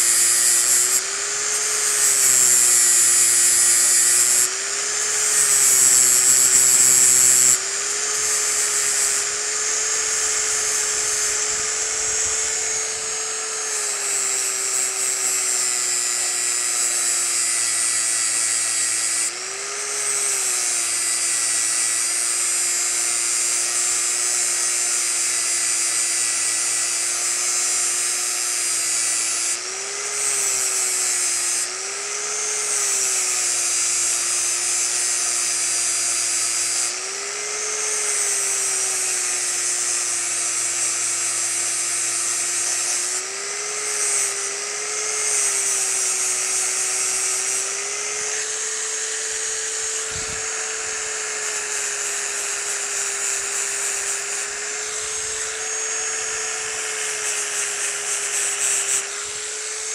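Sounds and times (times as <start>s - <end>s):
angle grinder grinding steel: 0.0s - 59.9s.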